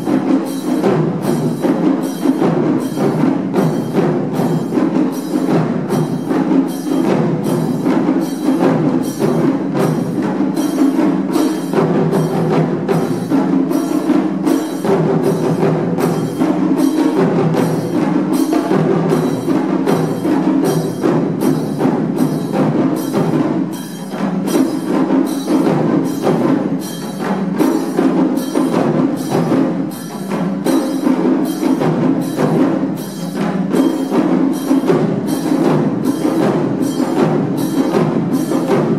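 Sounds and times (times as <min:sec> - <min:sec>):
taiko drums playing: 0:00.0 - 0:38.9.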